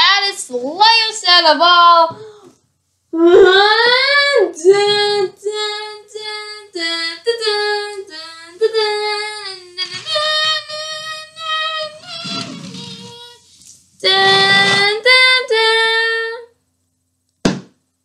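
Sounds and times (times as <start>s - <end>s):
young voice singing: 0.0s - 2.3s, 3.2s - 16.6s.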